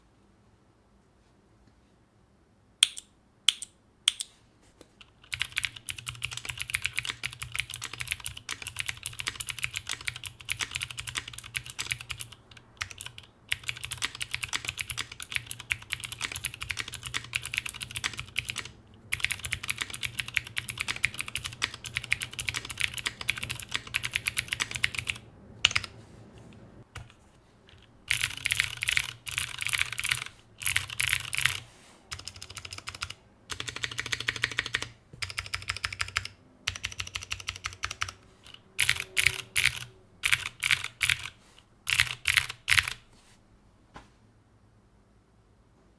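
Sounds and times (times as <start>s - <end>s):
mechanical keyboard typing: 5.0s - 26.0s, 27.0s - 43.0s.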